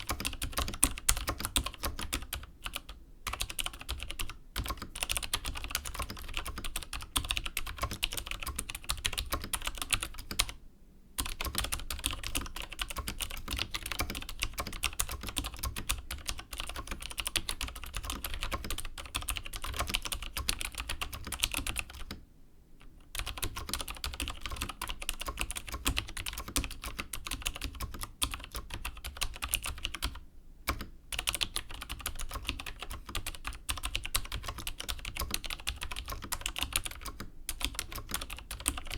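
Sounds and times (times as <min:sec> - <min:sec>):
mechanical keyboard typing: 0:00.0 - 0:10.6, 0:11.2 - 0:22.2, 0:23.1 - 0:38.9.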